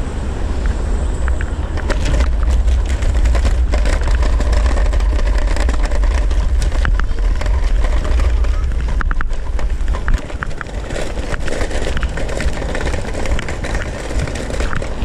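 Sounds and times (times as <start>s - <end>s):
wind buffeting microphone: 0.0s - 15.0s
scooter rattling over brick paving: 1.2s - 15.0s.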